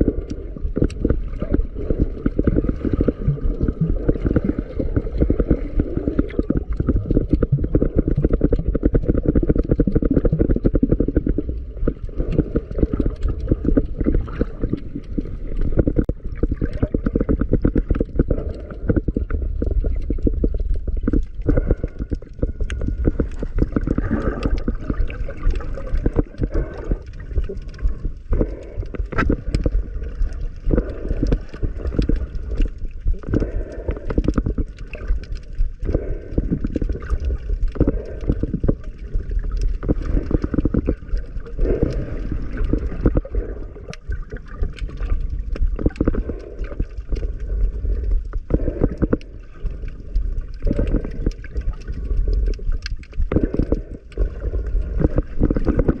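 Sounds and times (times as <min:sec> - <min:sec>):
crackle of small clicks: 0:00.0 - 0:56.0
muffled water sloshing: 0:00.0 - 0:56.0.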